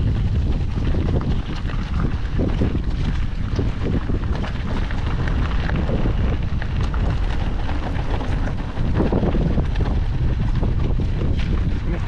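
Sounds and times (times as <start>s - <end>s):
tyres crunching over stones: 0.0s - 12.0s
wind buffeting microphone: 0.0s - 12.0s.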